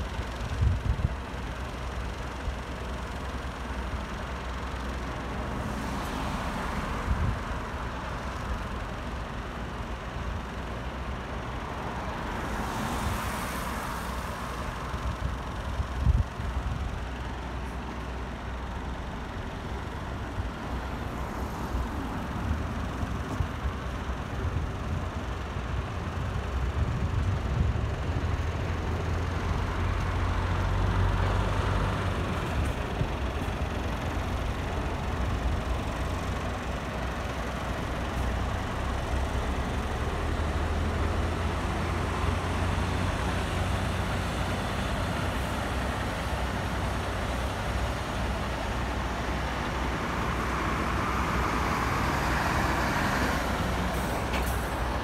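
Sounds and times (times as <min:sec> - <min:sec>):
road traffic noise: 0:00.0 - 0:55.0
vehicle engine humming: 0:00.0 - 0:55.0.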